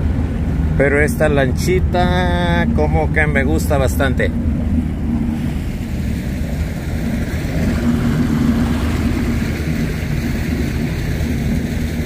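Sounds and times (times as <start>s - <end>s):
outboard motor running: 0.0s - 12.0s
water rushing along hull: 0.0s - 12.0s.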